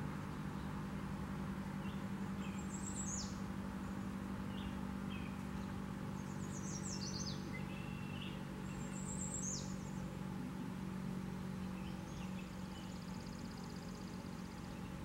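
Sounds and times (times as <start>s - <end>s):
steady low hum: 0.0s - 15.0s
small birds chirping: 1.7s - 15.0s.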